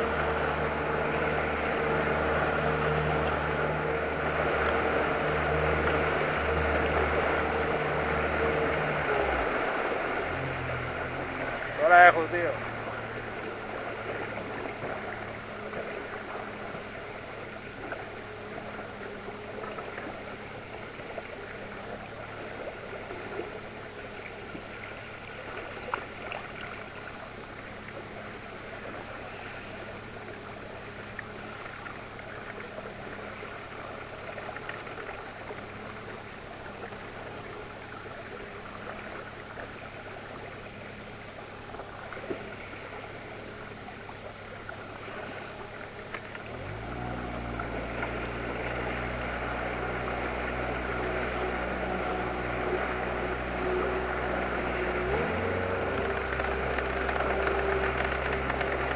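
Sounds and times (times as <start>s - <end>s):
outboard motor humming: 0.0s - 58.9s
water splashing along hull: 0.0s - 58.9s.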